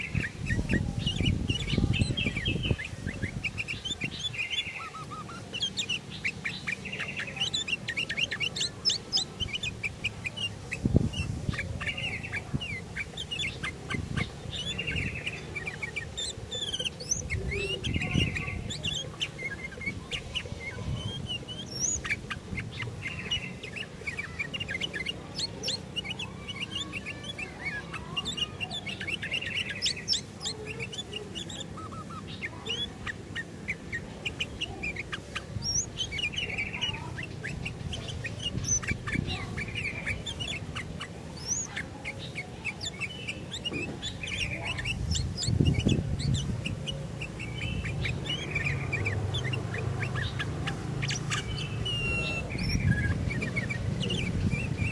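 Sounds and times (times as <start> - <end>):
bulbul chirping and warbling: 0.0 - 54.9.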